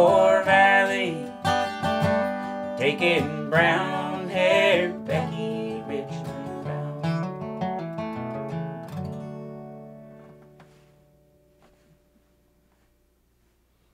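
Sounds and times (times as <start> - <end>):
acoustic guitar picking and strumming: 0.0 - 12.8.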